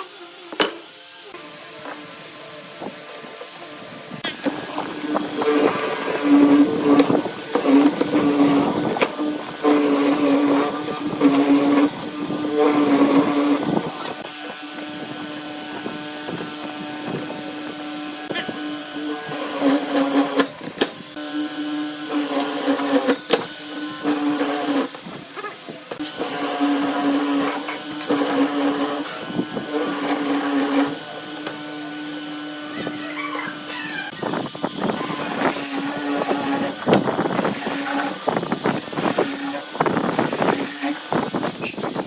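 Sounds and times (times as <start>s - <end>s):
power tool working wood: 0.0s - 42.0s.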